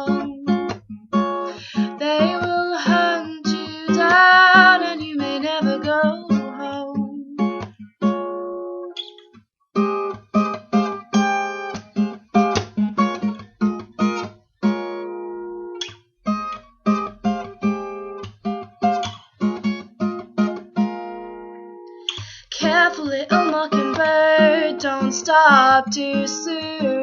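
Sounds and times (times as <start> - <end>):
acoustic guitar chords: 0.0 - 27.0.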